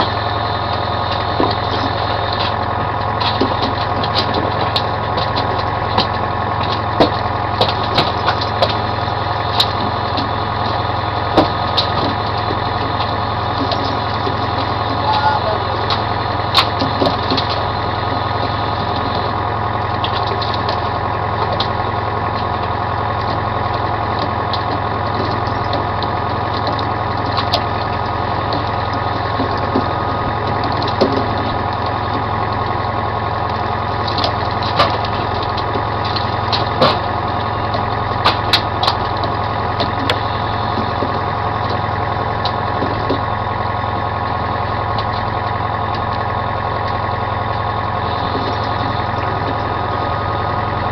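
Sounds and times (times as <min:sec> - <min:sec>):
boat engine droning: 0:00.0 - 0:50.9.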